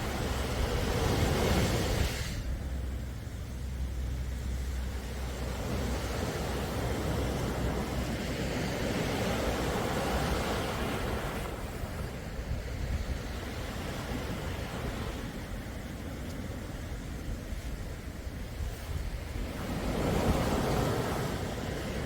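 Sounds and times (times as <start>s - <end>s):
sea waves washing: 0.0s - 22.0s.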